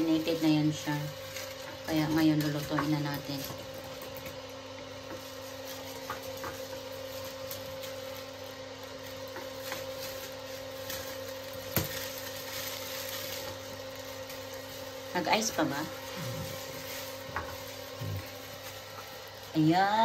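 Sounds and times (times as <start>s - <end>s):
appliance electrical hum: 0.0s - 20.0s
plastic bag crinkling: 0.0s - 20.0s.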